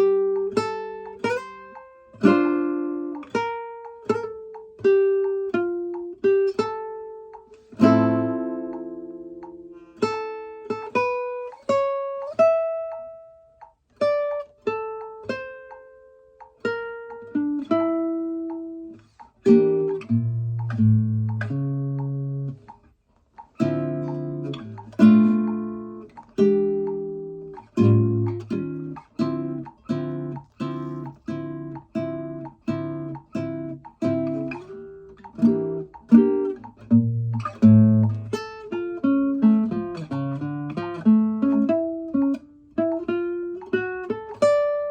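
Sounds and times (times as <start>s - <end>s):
classical guitar played solo: 0.0s - 44.9s.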